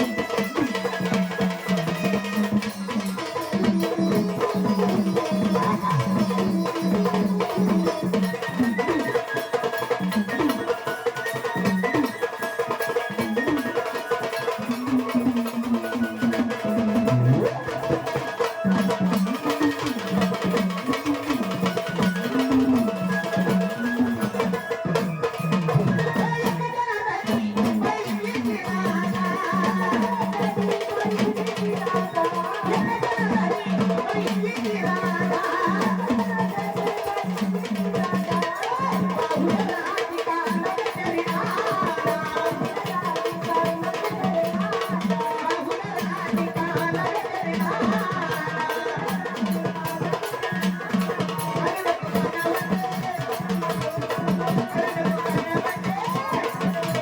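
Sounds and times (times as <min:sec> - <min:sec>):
rhythmic drum beat: 0:00.0 - 0:57.0.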